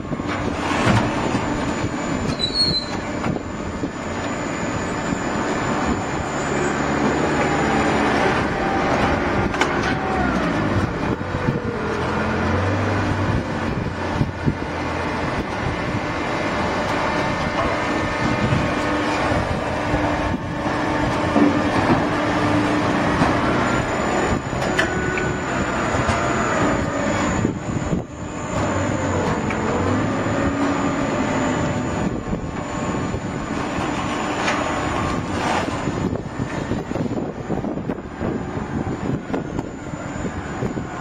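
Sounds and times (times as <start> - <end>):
faint mechanical whining: 0.0 - 41.0.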